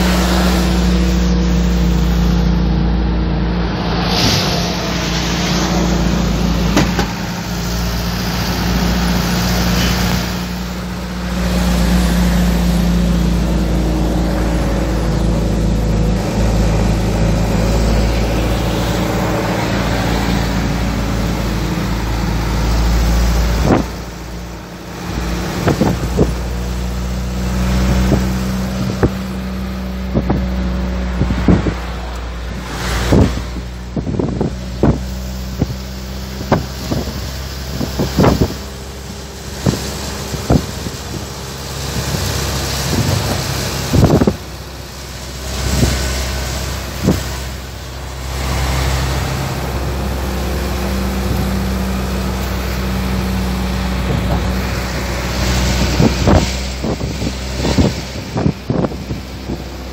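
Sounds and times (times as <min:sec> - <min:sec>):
tyres rushing on road: 0:00.0 - 0:59.9
vehicle engine drone: 0:00.0 - 0:59.9.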